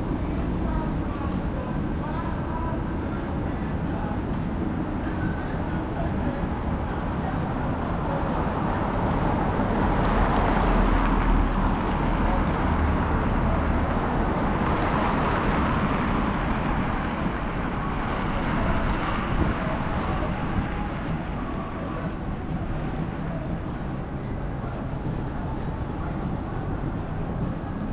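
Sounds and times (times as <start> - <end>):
street traffic rumble: 0.0 - 27.9.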